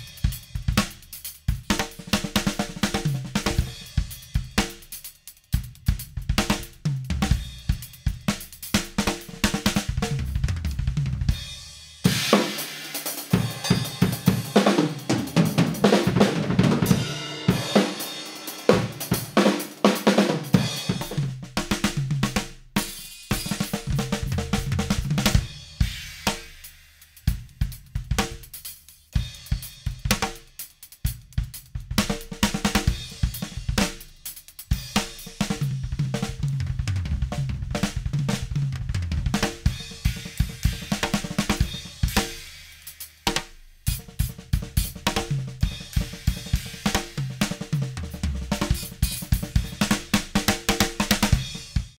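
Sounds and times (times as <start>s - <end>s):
drum kit groove: 0.0s - 52.0s.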